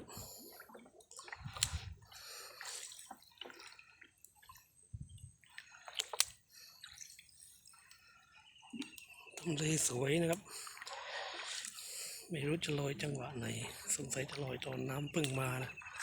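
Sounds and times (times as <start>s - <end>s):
water splashes: 0.0s - 4.7s, 5.3s - 8.0s, 8.8s - 16.0s
water dripping and sloshing: 0.0s - 16.0s.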